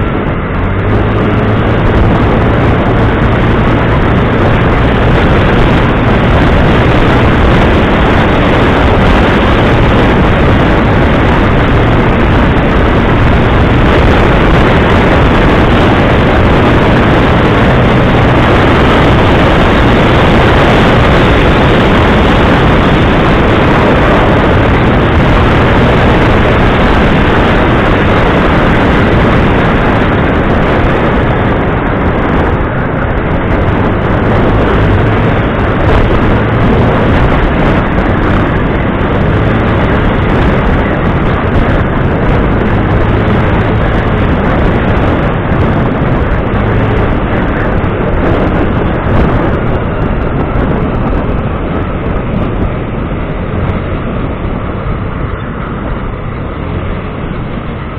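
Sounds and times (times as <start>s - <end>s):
low hum: 0.0s - 57.9s
vehicle engine and rushing noise: 0.0s - 57.9s.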